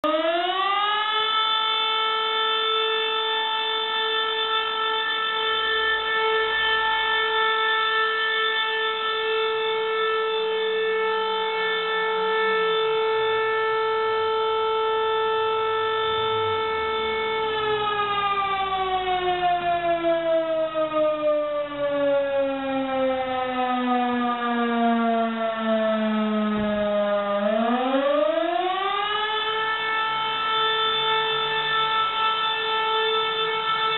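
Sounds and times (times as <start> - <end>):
fire station siren wailing: 0.0 - 33.9.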